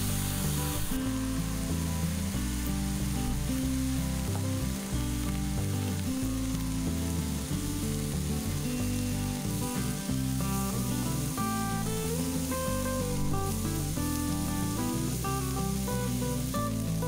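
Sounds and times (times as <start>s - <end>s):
mushrooms sizzling in oil: 0.0s - 17.0s.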